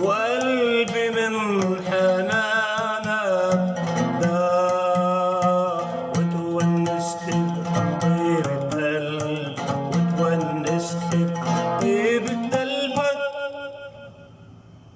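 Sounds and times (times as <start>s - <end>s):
plucked string melody: 0.0s - 13.2s.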